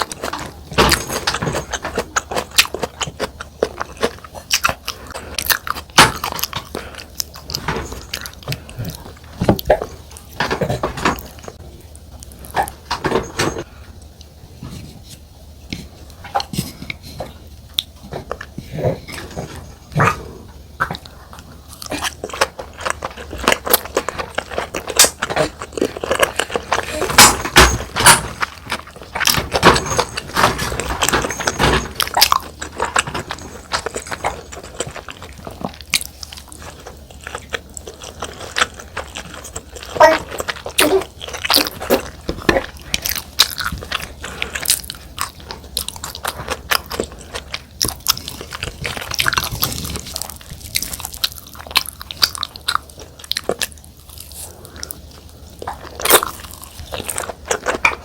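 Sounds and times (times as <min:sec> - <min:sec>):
wet chewing and biting: 0:00.0 - 0:12.9, 0:16.1 - 0:58.0.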